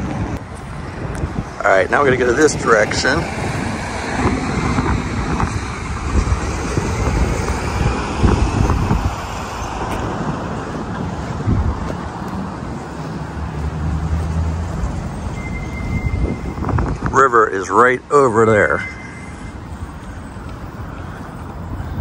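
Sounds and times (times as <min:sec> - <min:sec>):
road traffic rumble: 0:00.0 - 0:22.0
steady engine hum: 0:00.0 - 0:22.0.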